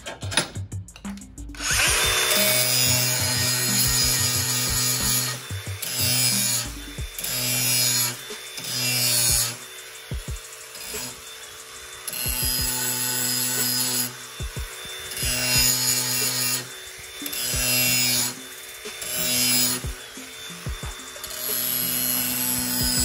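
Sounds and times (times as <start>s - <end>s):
grinder disc scraping metal: 1.6s - 23.0s
grinder motor whining: 1.6s - 23.0s.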